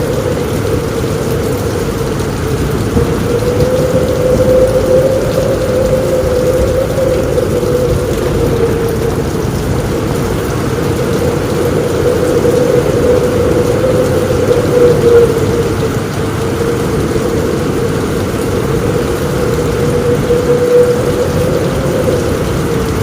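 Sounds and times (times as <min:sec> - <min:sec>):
heavy rain on a roof: 0:00.0 - 0:23.0.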